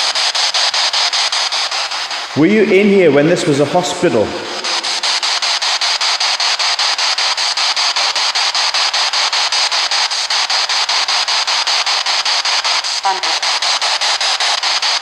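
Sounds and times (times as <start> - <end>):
radio static sweeping channels: 0.0 - 15.0.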